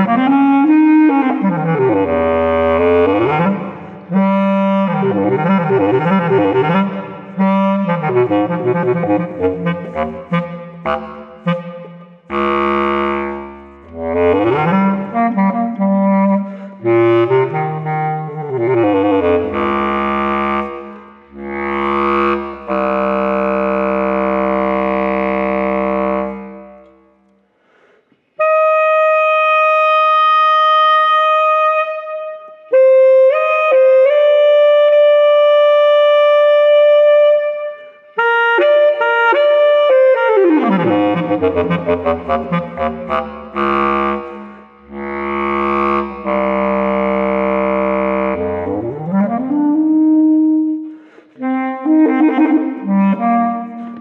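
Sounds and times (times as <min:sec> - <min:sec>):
solo bass clarinet: 0:00.0 - 0:27.2, 0:28.4 - 0:54.0.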